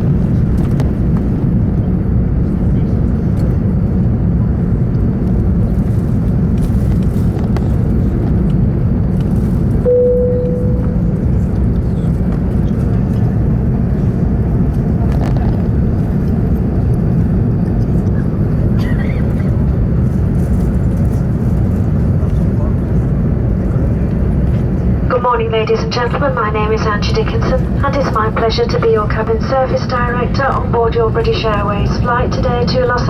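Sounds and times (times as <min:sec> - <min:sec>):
aircraft cabin engine rumble: 0:00.0 - 0:33.0.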